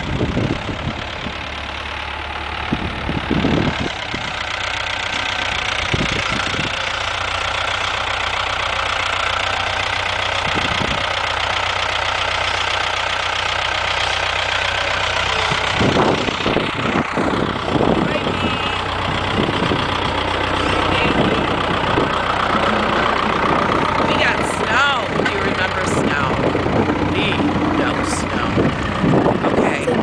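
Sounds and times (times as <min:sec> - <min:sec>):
tractor engine idling: 0:00.0 - 0:30.0.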